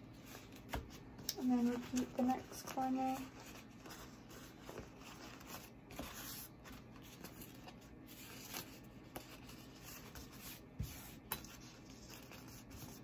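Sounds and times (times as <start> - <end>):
wrap paper rustling and crinkling: 0.1 - 13.0.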